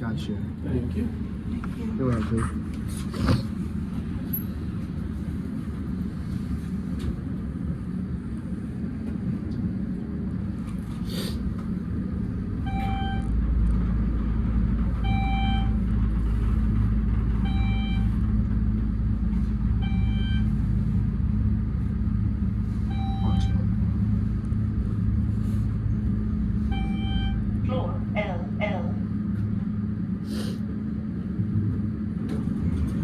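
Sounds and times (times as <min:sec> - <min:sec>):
elevator car rumbling: 0:00.0 - 0:33.0.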